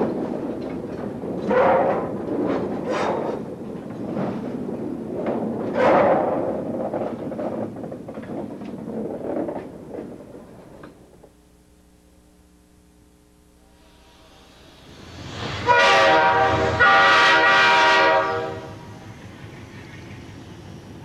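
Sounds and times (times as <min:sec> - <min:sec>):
freight train wheels rumbling and clanking: 0:00.0 - 0:11.4, 0:14.2 - 0:21.0.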